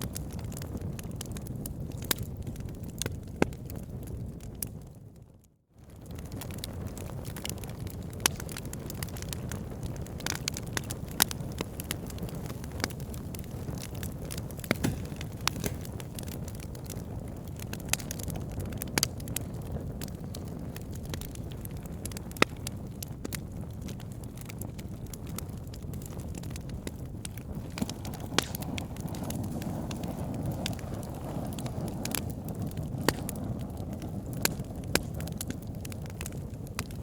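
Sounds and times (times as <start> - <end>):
burning logs crackling and popping: 0.0 - 37.0
low rumble of flames: 0.0 - 37.0.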